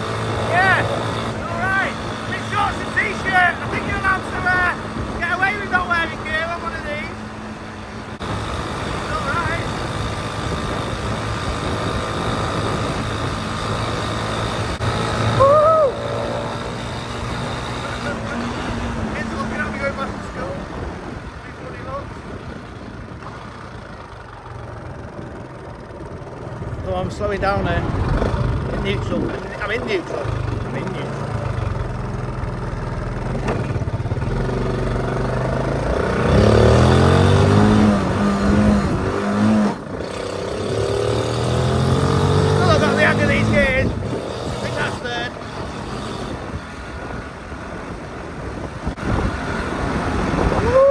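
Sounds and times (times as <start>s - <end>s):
small motorcycle engine running: 0.0s - 50.9s
wind and road noise: 0.0s - 50.9s.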